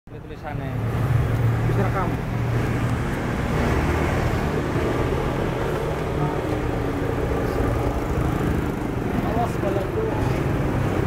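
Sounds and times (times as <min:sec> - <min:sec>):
traffic rumble: 0:00.1 - 0:11.0.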